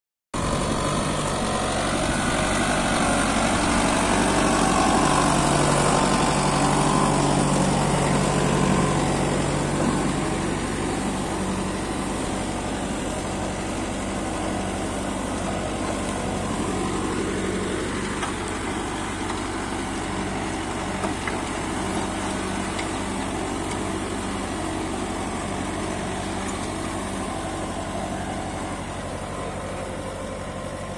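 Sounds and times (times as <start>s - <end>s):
tractor diesel engine running: 0.4s - 30.9s.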